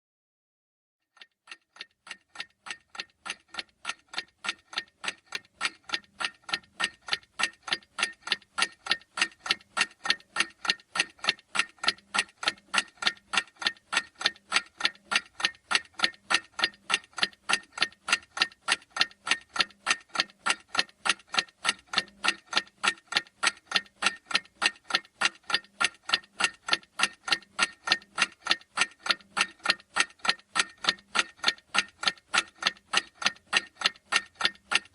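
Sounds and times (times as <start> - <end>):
clock ticking: 1.1 - 34.9.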